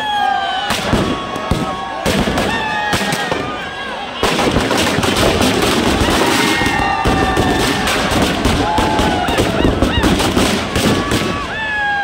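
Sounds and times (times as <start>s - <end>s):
firecrackers crackling: 0.6s - 11.8s.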